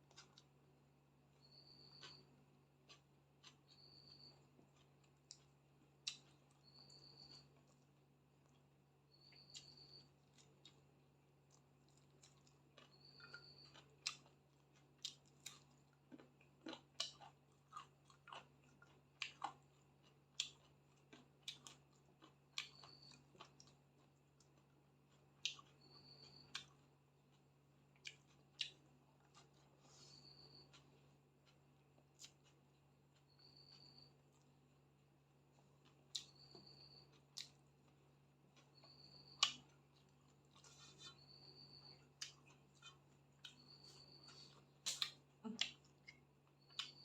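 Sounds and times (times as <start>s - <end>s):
chewing with wet mouth clicks: 1.4s - 34.8s, 35.4s - 47.0s.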